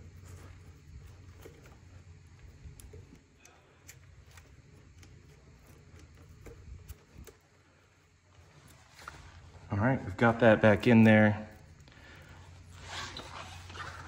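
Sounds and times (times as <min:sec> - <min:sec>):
faint clicks and rustles: 0:00.0 - 0:09.7, 0:10.8 - 0:14.0
low steady rumble: 0:00.0 - 0:14.0.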